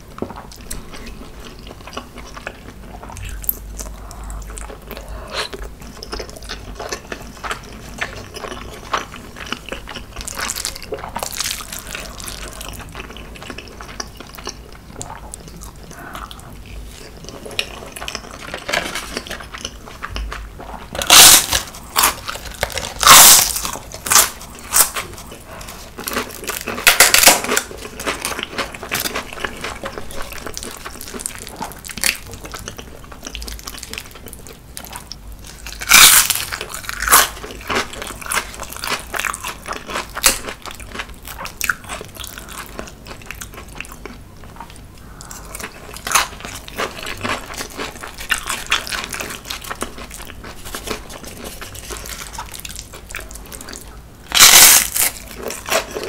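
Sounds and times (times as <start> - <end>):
soft chewing mouth sounds: 0.1 - 35.9, 36.5 - 54.1
crunchy chewing: 0.2 - 56.0.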